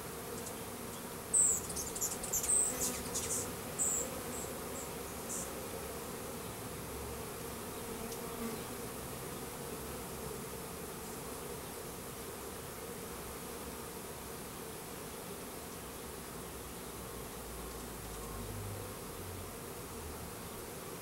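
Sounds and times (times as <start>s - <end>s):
honey bees humming: 0.0s - 21.0s.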